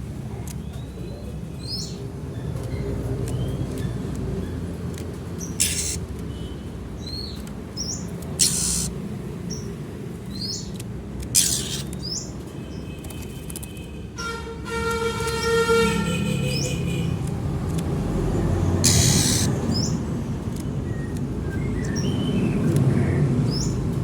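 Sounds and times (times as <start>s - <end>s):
small birds chirping: 0.2s - 14.0s, 16.4s - 24.0s.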